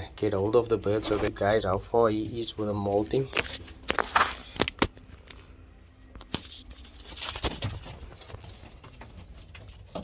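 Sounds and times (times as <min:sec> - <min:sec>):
scuffling in pigeon loft: 0:00.0 - 0:10.0.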